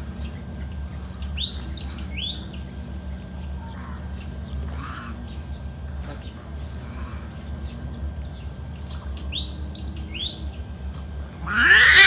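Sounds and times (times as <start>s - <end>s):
bird chirping: 0.0s - 10.7s
steady low rumble: 0.0s - 11.5s.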